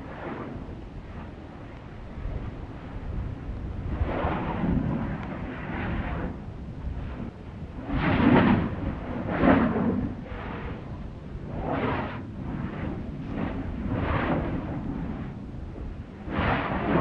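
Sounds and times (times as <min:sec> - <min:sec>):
steady low rumble: 0:00.0 - 0:17.0
volcano eruption bursts: 0:00.0 - 0:17.0.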